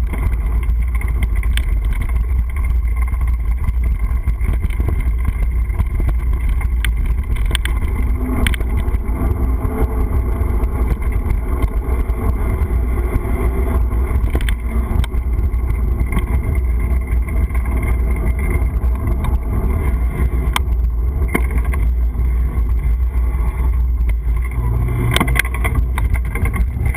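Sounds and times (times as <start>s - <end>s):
camera knocks and rattles: 0.0s - 23.1s, 23.7s - 26.9s
wind buffeting microphone: 0.0s - 26.9s.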